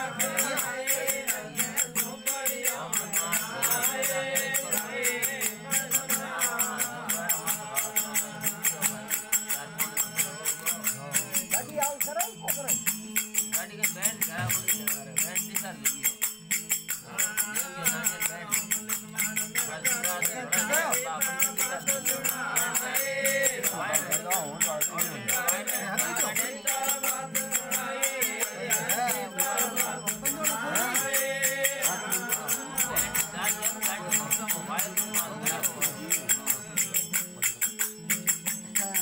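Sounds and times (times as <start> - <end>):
harmonium melody: 0.0 - 39.0
jingling hand percussion: 0.0 - 39.0.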